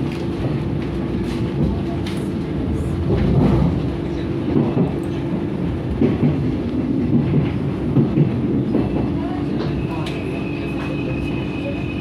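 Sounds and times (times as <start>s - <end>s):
train clatter: 0.0s - 12.0s
train rumble inside carriage: 0.0s - 12.0s.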